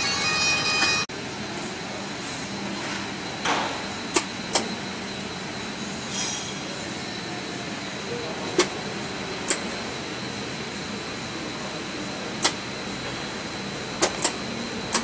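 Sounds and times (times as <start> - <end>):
machine running: 0.0 - 15.0.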